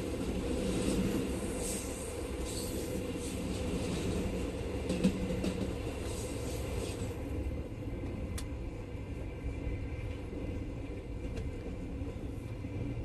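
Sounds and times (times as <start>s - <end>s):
passing freight train rushing: 0.0s - 13.0s.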